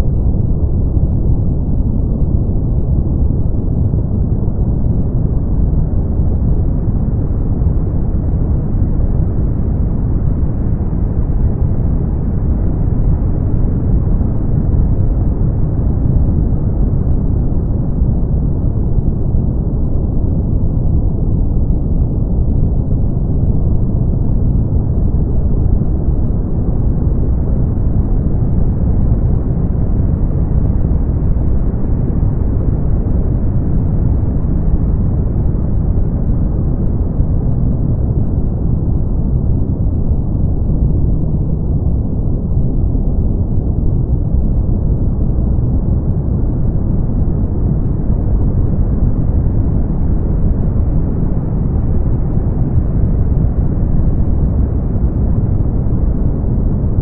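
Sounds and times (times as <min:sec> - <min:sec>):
brown noise: 0:00.0 - 0:57.0.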